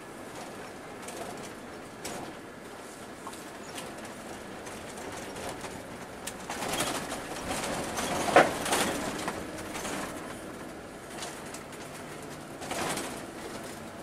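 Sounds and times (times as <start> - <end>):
coach engine and road rumble: 0.0 - 14.0.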